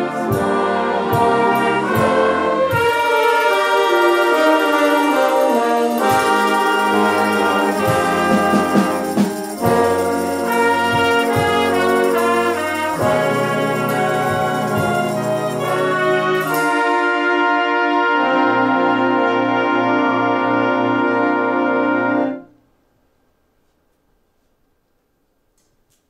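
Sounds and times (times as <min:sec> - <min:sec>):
wind band playing sustained chords: 0:00.0 - 0:22.6.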